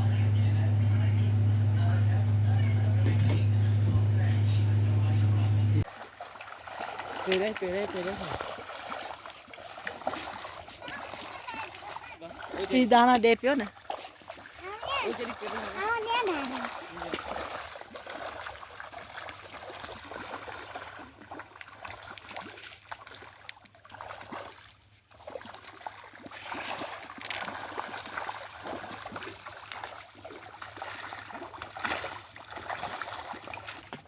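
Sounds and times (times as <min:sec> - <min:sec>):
water trickling and splashing: 0:05.8 - 0:34.0.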